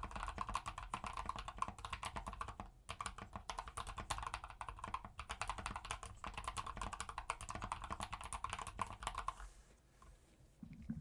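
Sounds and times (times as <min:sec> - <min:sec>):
fast typing on mechanical keyboard: 0:00.0 - 0:09.4.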